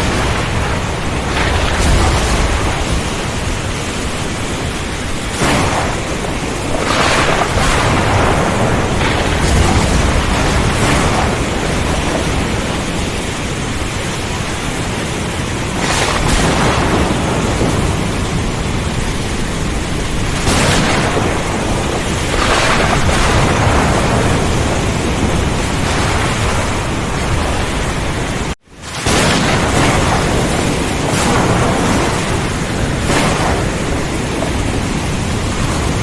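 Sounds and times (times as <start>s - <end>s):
heavy rain: 0.0s - 36.0s
thunder: 0.0s - 36.0s
wind: 0.0s - 36.0s.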